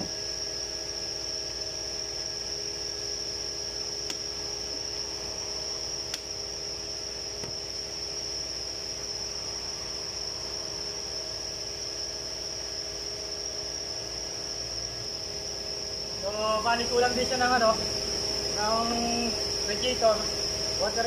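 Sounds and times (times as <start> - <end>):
even hiss: 0.0 - 21.0
high-pitched whine: 0.0 - 21.0.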